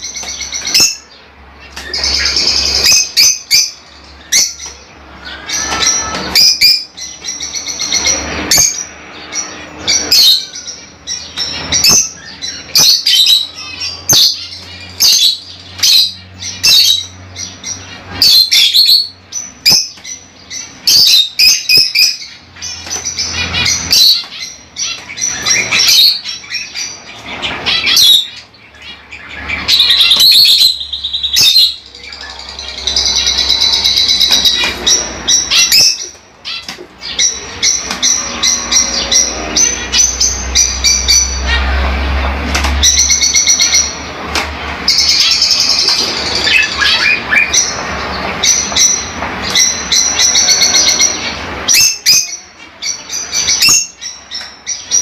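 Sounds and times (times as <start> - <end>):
lovebirds chirping shrilly: 0.0 - 55.0.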